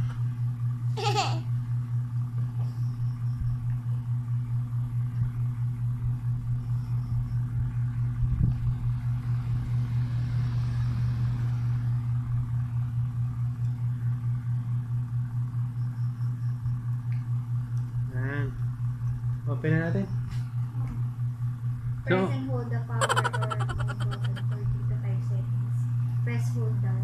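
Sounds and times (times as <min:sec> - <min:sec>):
pulsing mechanical hum: 0:00.0 - 0:19.4, 0:22.9 - 0:26.1.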